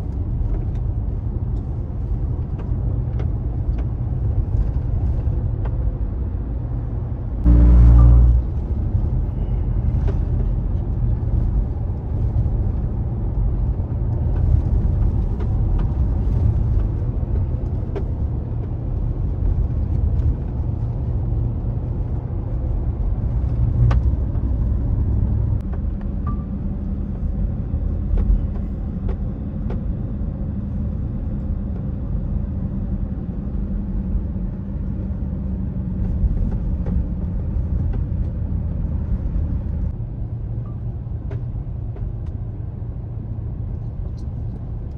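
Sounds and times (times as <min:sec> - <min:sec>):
road and engine rumble: 0:00.0 - 0:44.9.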